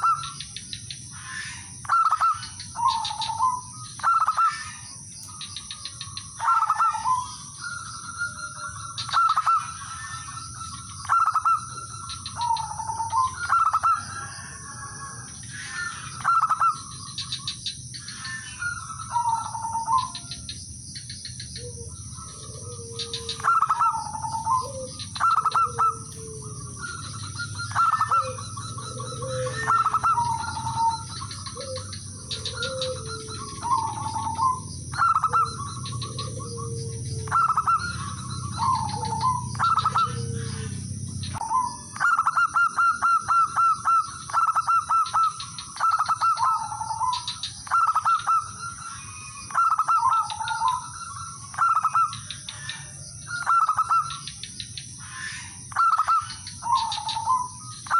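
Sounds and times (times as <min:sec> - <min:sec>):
doves cooing: 0:00.0 - 0:57.9
lower dove calls: 0:00.0 - 0:57.9.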